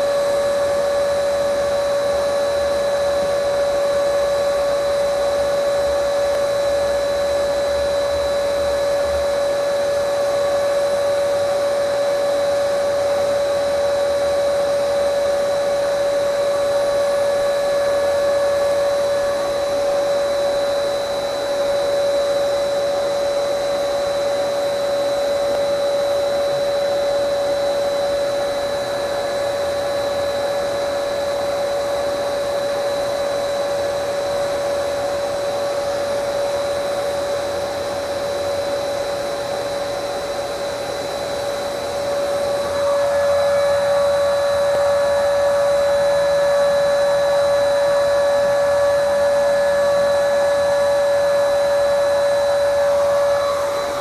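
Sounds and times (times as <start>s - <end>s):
electric spray gun whining: 0.0s - 54.0s.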